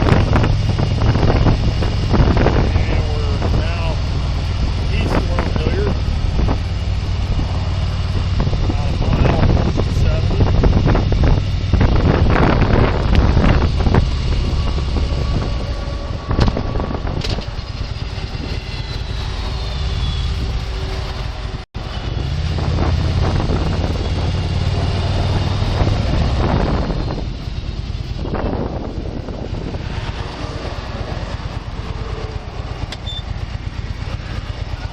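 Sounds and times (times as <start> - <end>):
vehicle engine running: 0.0 - 34.9
wind noise on microphone: 0.0 - 34.9.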